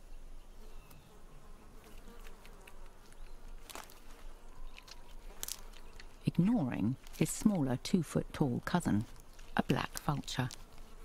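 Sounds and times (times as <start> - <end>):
flies buzzing: 0.5 - 7.8, 8.8 - 11.0.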